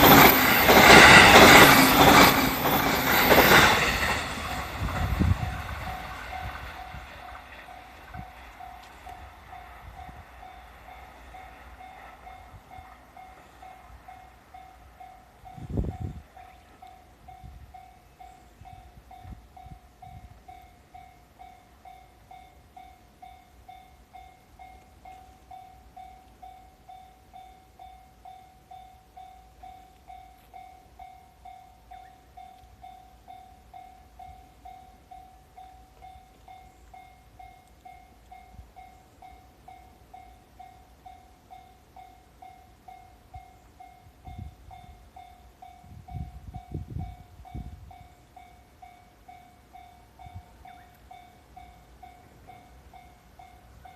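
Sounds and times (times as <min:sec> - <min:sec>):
level crossing warning bell: 0:00.0 - 0:53.9.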